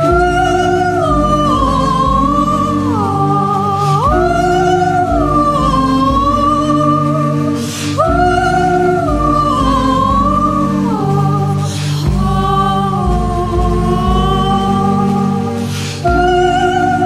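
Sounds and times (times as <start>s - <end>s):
high sustained melody: 0.0s - 17.0s
low held accompaniment tones: 0.0s - 17.0s.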